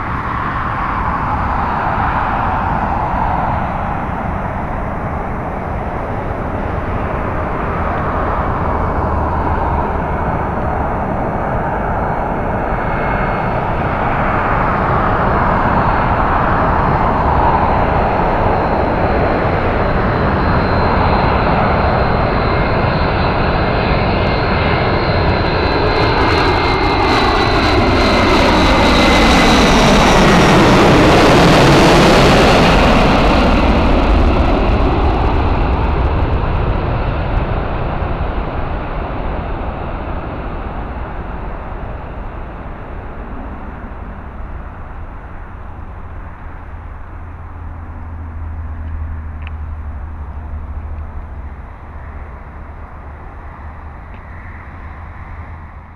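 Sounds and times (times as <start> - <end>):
jet aircraft engine whine: 0.0 - 55.9.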